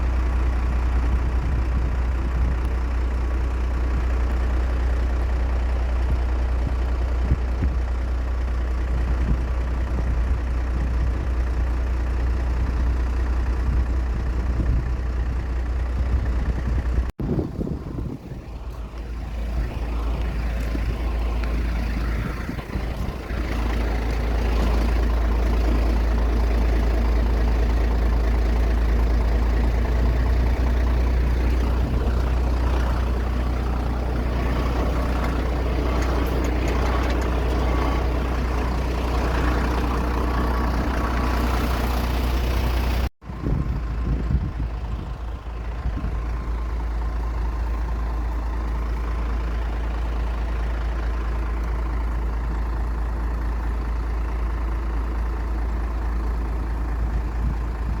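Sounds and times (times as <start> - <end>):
aircraft engine rumbling: 0.0 - 58.0.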